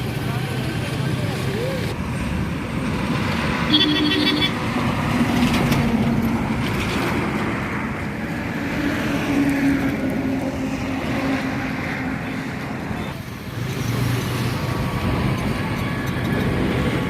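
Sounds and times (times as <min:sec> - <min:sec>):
truck diesel engines droning: 0:00.0 - 0:17.0.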